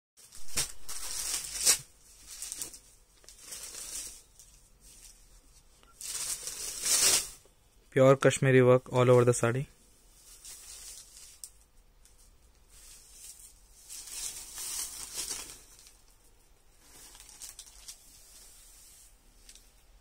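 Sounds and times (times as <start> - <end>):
fabric rustling: 0.2 - 7.4, 10.0 - 20.0.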